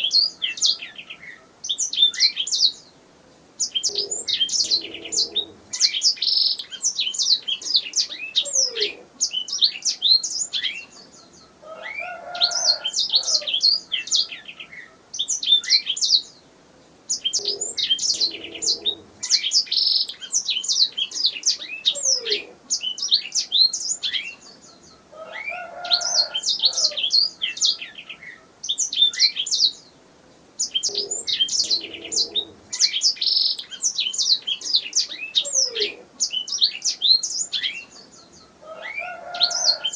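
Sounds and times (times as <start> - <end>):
canary singing: 0.0 - 2.9, 3.6 - 16.4, 17.1 - 30.0, 30.6 - 39.9.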